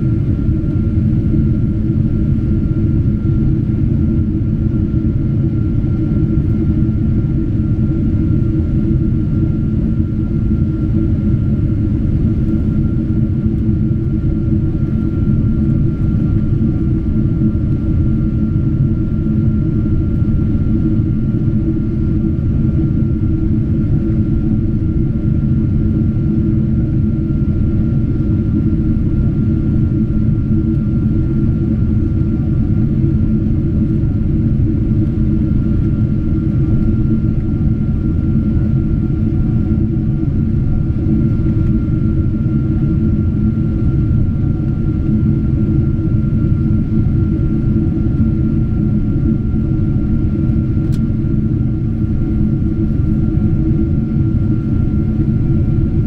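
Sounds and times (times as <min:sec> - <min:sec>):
jet engine cabin rumble: 0:00.0 - 0:56.0
thin steady whine: 0:00.0 - 0:56.0.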